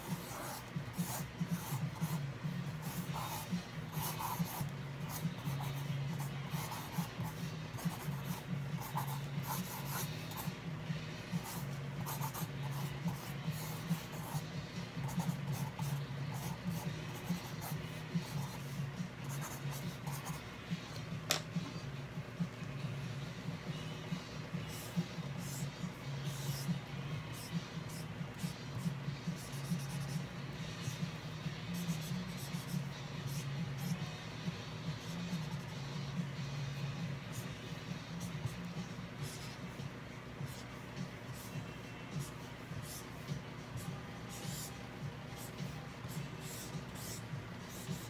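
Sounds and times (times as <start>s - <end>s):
pencil scratching on paper: 0.0s - 10.6s, 11.4s - 20.4s, 24.4s - 35.8s, 37.3s - 39.8s, 40.4s - 41.6s, 42.2s - 48.0s.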